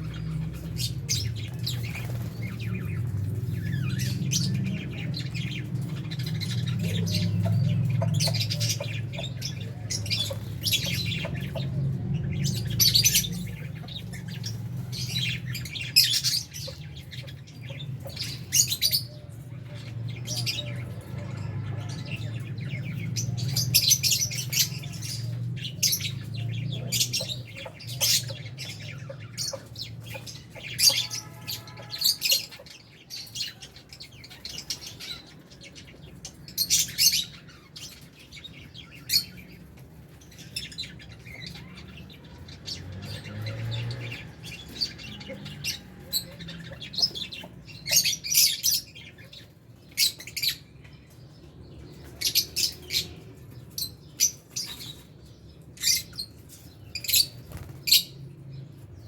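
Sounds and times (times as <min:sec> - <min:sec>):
birds chirping and squawking: 0:00.0 - 0:59.0.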